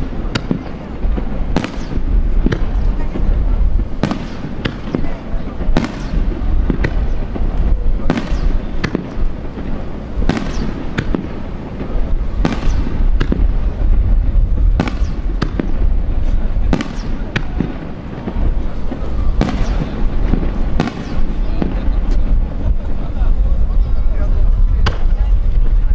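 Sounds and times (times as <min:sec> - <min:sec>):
firework shells bursting: 0:00.0 - 0:23.2
continuous low rumble: 0:00.0 - 0:25.9
rolling echo: 0:00.0 - 0:25.9.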